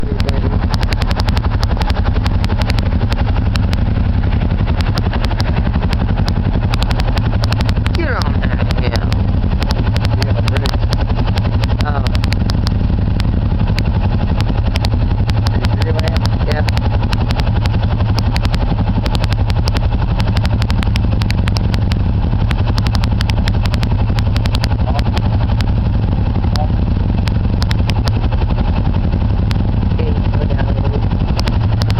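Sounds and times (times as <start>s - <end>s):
atv engine running: 0.0s - 31.9s
sharp clicks: 0.0s - 31.9s.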